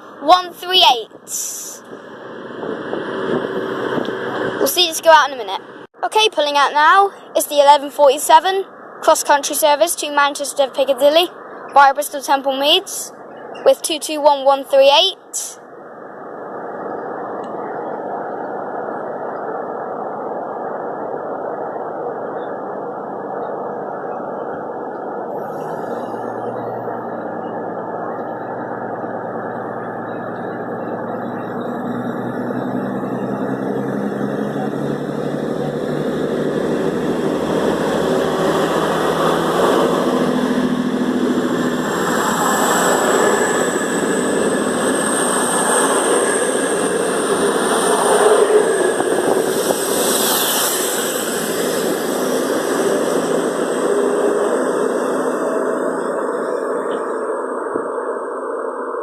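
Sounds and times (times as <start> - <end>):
high thin whine: 0.0 - 6.8, 15.0 - 59.0
diesel train engines under load: 0.0 - 19.8, 22.6 - 58.5.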